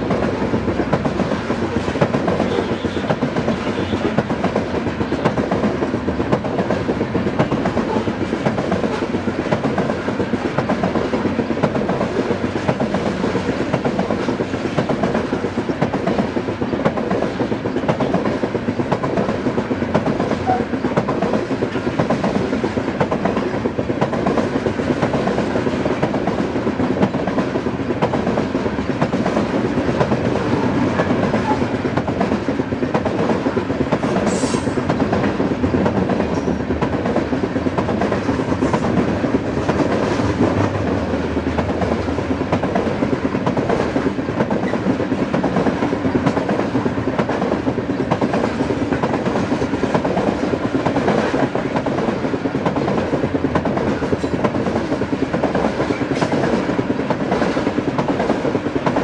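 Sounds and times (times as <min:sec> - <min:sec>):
train wheels rumbling on rail: 0:00.0 - 0:59.0
wheels clickety-clack: 0:00.0 - 0:59.0.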